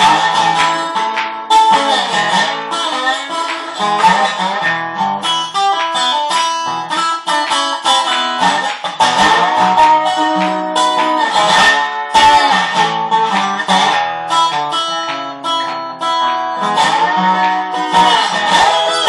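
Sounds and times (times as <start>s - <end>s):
slide guitar blues notes: 0.0s - 19.0s.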